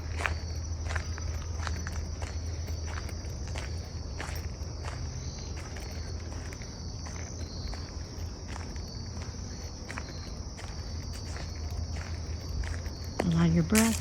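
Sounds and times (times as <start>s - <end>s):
insects chirping: 0.0s - 14.0s
soft footsteps: 0.0s - 14.0s.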